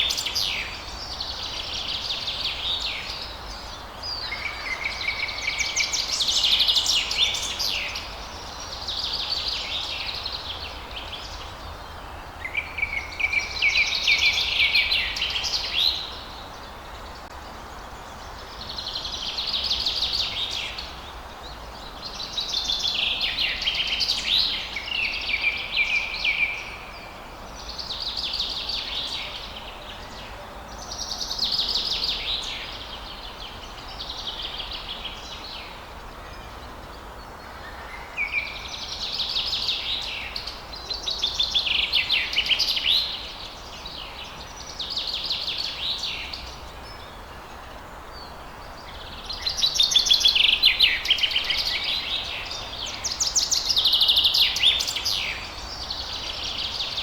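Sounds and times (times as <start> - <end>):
faint background noise: 0.0 - 57.0.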